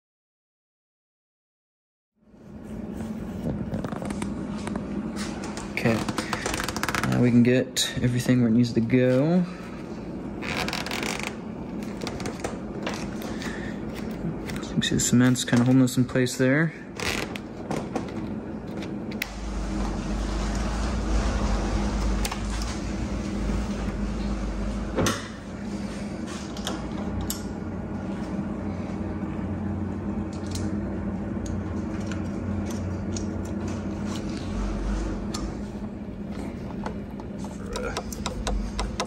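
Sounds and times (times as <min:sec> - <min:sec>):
steady low hum: 0:02.2 - 0:39.0.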